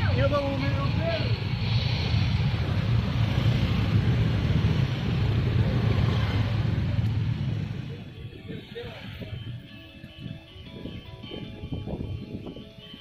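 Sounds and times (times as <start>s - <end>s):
scooter engines rumbling: 0.0s - 13.0s.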